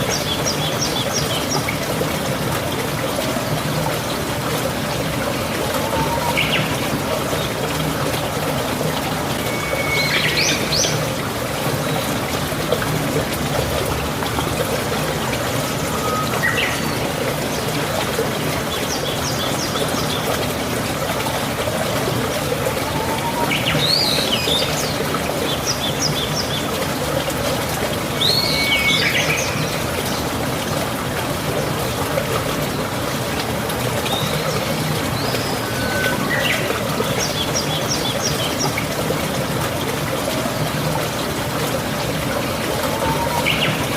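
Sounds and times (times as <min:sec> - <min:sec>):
running water: 0:00.0 - 0:43.9.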